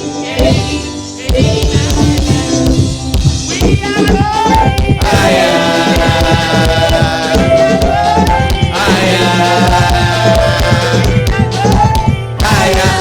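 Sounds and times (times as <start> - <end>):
gospel singing: 0.0 - 13.0
steady drum beat: 0.4 - 13.0.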